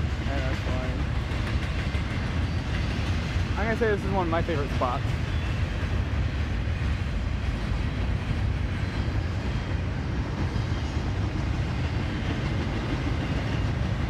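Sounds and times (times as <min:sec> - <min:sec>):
freight train passing: 0:00.0 - 0:14.0.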